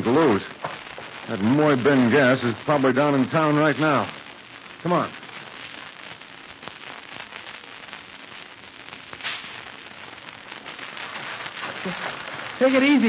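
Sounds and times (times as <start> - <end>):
bright hiss: 0.0 - 13.0
crackling noise: 0.0 - 13.0.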